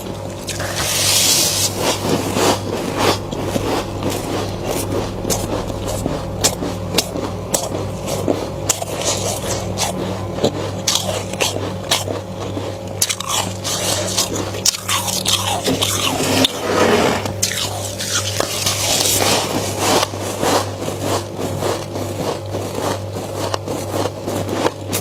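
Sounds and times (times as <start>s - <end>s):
crunchy chewing of frost: 0.0s - 25.0s
steady low hum: 0.0s - 25.0s.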